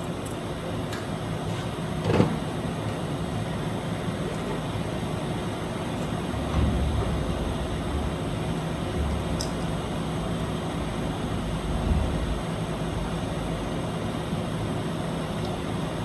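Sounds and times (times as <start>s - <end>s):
shop press humming: 0.6s - 14.2s.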